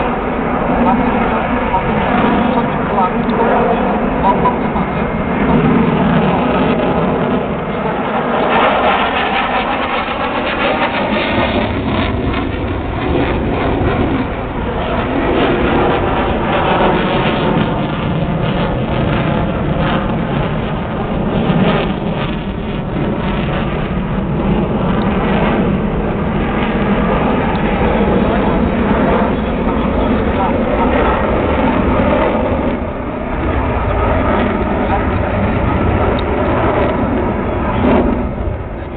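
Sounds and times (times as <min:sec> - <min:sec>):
fighter jet engines rushing: 0:00.0 - 0:38.9.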